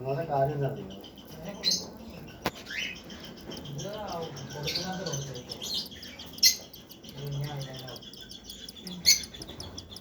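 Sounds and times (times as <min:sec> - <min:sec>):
chicks chirping high: 0:00.4 - 0:10.0
loud sharp bird calls: 0:00.7 - 0:10.0.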